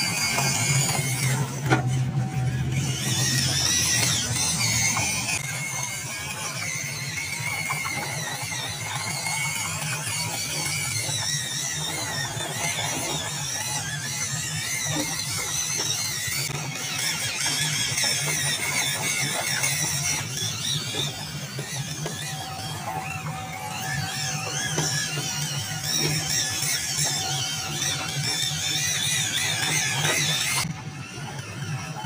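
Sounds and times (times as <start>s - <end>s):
toy truck electric motor whining: 0.0s - 32.0s.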